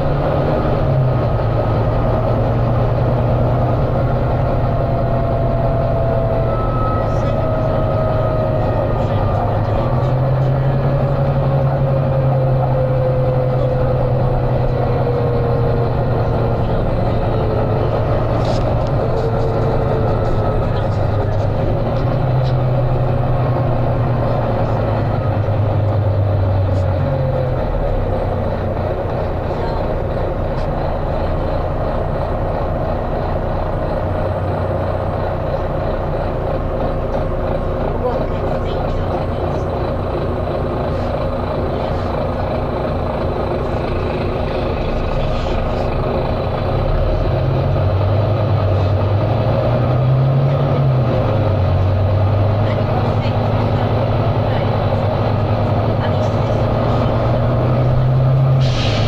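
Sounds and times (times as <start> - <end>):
bus diesel engine droning: 0.0 - 59.0
road noise: 0.0 - 59.0.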